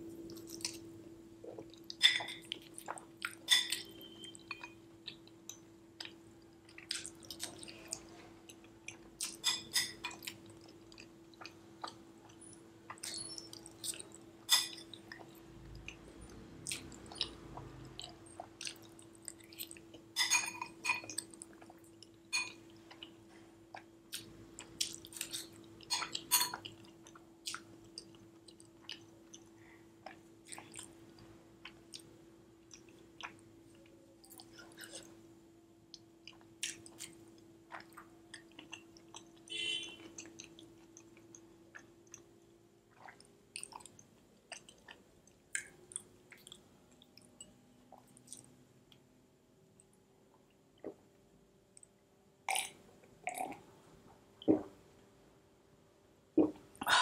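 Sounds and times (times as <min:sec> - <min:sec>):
faint steady hum: 0:00.0 - 0:57.0
chewing with wet mouth sounds: 0:00.2 - 0:35.3, 0:35.9 - 0:49.0.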